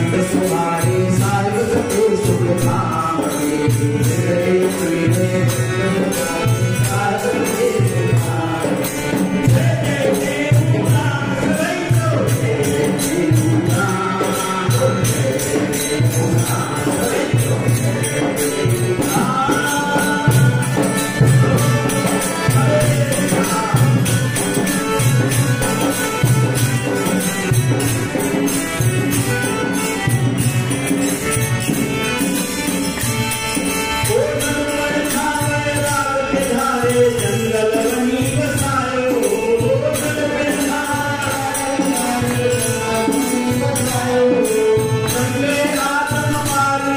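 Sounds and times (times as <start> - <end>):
man singing: 0.0 - 32.7, 33.6 - 46.9
harmonium: 0.0 - 46.9
high percussion strokes: 0.0 - 46.9.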